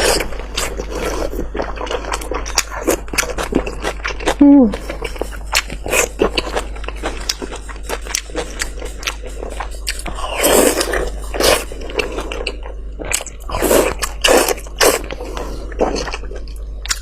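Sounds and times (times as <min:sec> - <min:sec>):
chewing and biting meat: 0:00.0 - 0:17.0.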